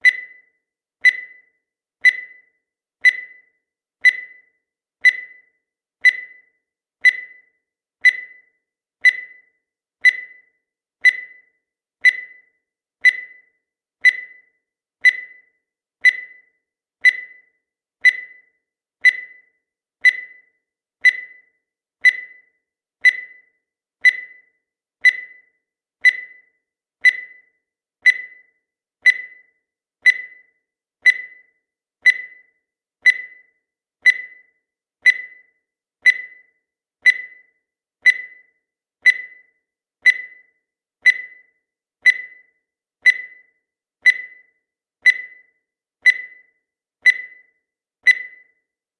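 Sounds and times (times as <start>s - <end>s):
electronic timer ticks: 0.0s - 48.8s.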